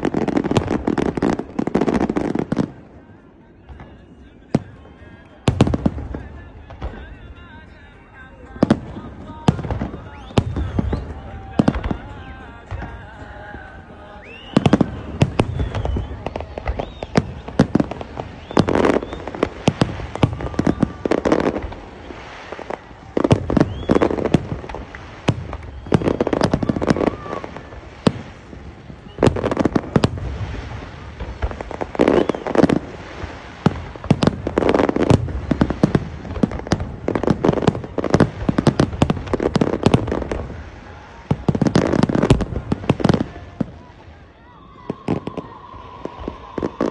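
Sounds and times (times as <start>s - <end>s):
fireworks bursts and crackling: 0.0s - 46.9s.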